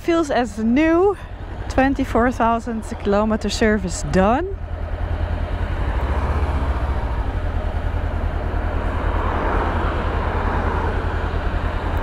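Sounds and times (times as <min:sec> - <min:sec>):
motorcycle engine rumbling: 0:00.0 - 0:12.0
wind and road noise: 0:00.0 - 0:12.0.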